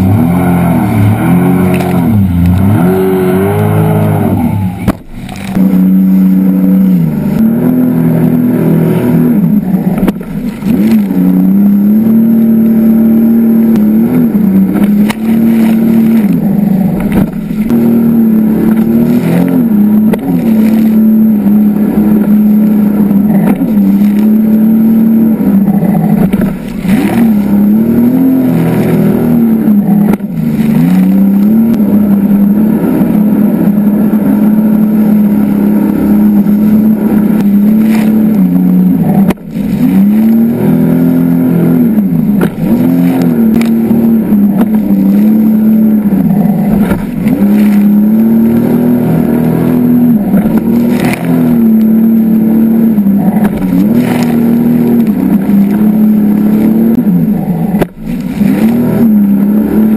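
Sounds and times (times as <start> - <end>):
jet ski engine running: 0.0 - 59.9.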